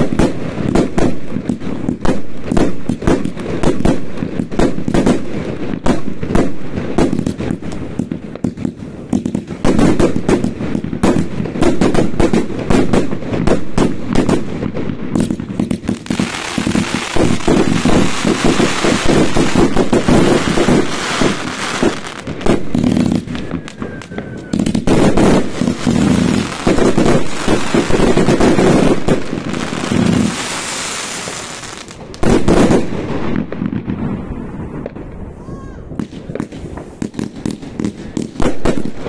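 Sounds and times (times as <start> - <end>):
fireworks bangs and pops: 0.0 - 39.0
hissing crackle of fireworks: 0.0 - 39.0.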